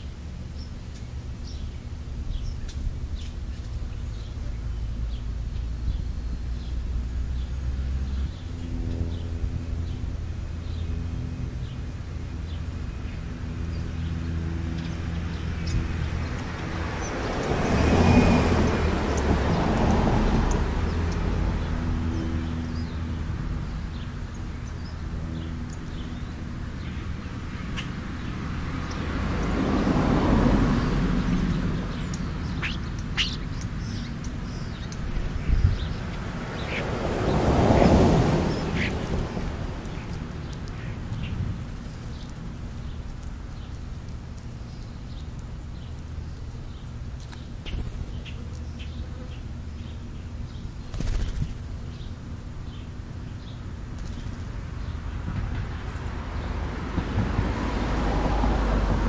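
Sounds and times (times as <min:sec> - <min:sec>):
low engine hum: 0:00.0 - 0:59.0
vehicles passing: 0:00.0 - 0:59.0.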